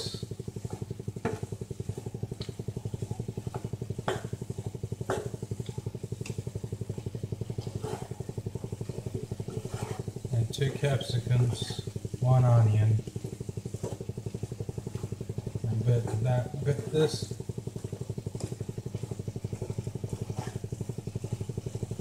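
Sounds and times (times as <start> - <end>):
pulsing mechanical hum: 0.0 - 22.0.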